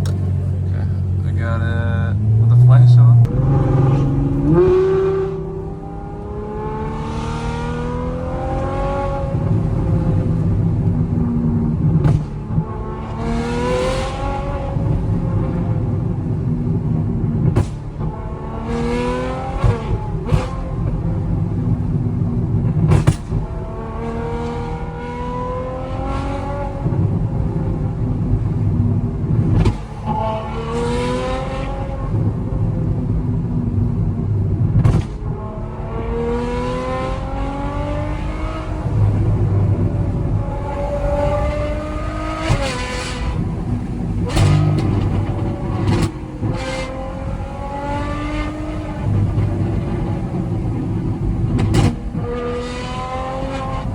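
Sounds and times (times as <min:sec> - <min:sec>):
car engine accelerating hard: 0:00.0 - 0:53.9.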